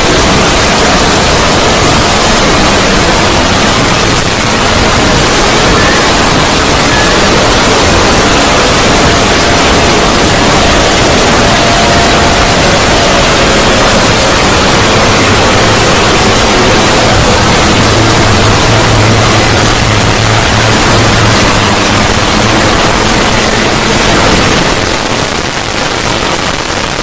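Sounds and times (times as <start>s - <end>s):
low hum: 0.0s - 26.9s
rushing static hiss: 0.0s - 27.0s.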